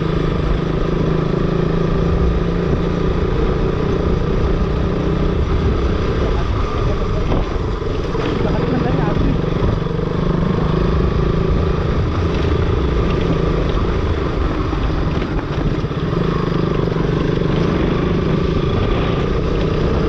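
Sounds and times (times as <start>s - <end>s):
motorcycle engine cruising: 0.0s - 20.0s
wind and road noise: 0.0s - 20.0s.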